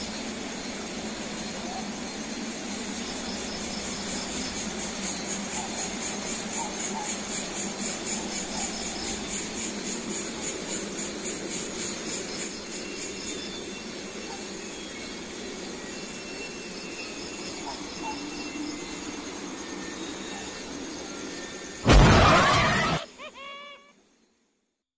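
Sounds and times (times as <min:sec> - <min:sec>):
insects chirping: 0:00.0 - 0:24.5.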